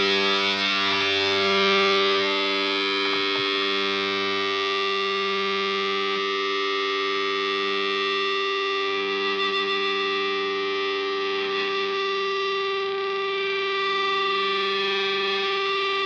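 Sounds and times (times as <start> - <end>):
distorted electric guitar chord drone: 0.0 - 16.0.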